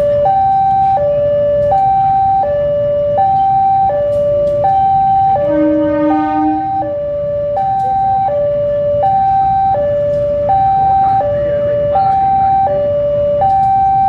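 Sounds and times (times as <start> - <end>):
low engine rumble: 0.0 - 14.0
two-tone electronic warning alarm: 0.0 - 14.0.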